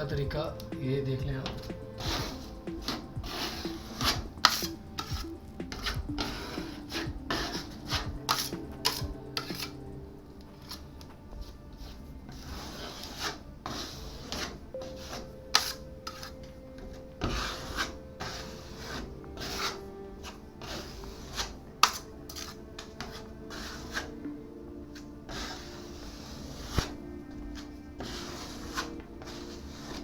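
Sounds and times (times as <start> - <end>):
putty knife scraping filler: 0.6 - 9.8, 10.6 - 24.2, 24.9 - 30.0.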